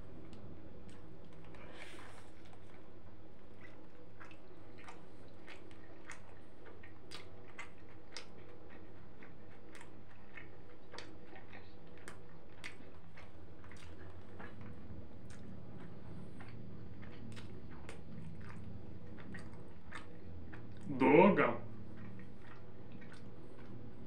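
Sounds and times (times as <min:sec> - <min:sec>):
steady low hum: 0:00.0 - 0:24.0
wet chewing mouth clicks: 0:03.4 - 0:21.0, 0:21.6 - 0:24.0.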